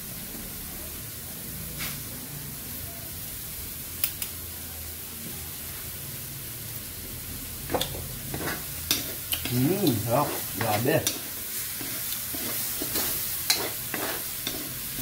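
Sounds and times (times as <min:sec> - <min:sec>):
food frying in a wok: 0:00.0 - 0:15.0.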